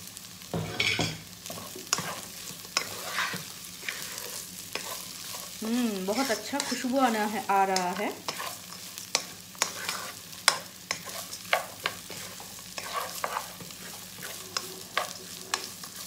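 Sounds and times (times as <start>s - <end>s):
light sizzle: 0.0s - 16.0s
spatula scraping rice in pan: 1.4s - 16.0s.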